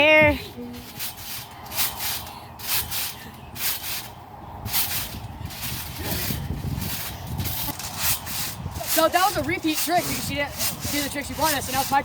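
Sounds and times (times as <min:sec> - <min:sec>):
trampoline bouncing whoosh: 0:00.0 - 0:12.0.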